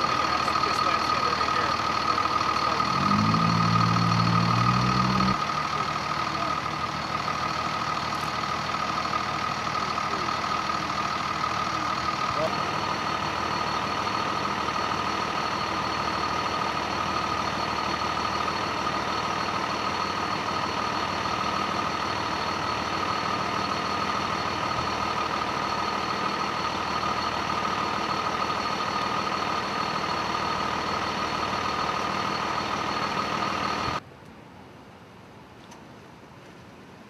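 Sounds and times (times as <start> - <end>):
heavy vehicle engine idling: 0.0 - 34.0.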